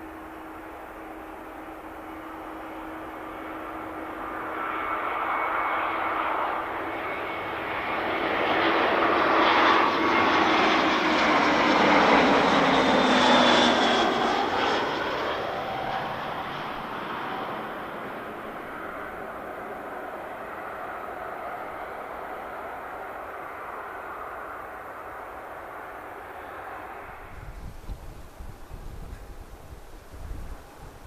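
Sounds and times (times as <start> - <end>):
airliner flying overhead: 0.0 - 31.0.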